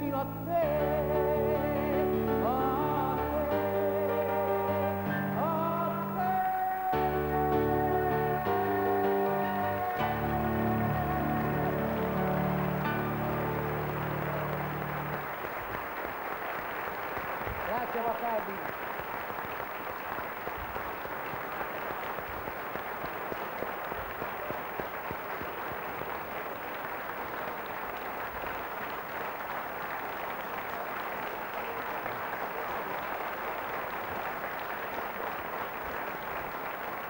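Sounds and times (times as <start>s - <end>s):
audience applauding: 0.8s - 37.0s.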